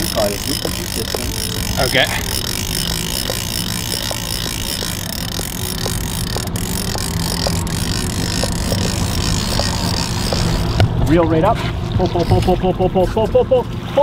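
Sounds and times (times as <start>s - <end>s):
fishing reel ticking: 0.0s - 11.0s, 12.0s - 12.6s
outboard motor humming: 0.0s - 14.0s.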